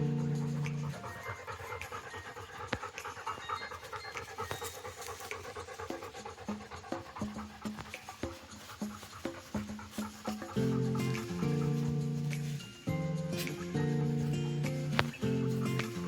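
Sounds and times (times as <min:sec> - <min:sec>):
dog panting rapidly: 0:00.0 - 0:16.0.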